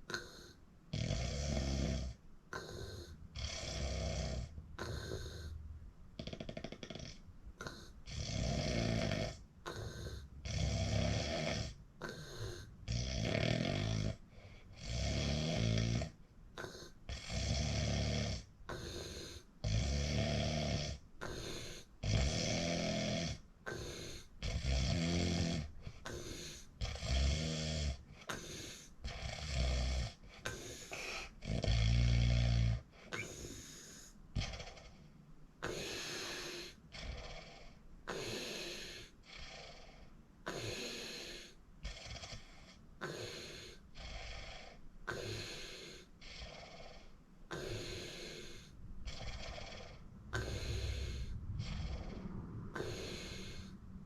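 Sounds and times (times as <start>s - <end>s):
person snoring: 0.0s - 5.6s, 6.2s - 54.0s.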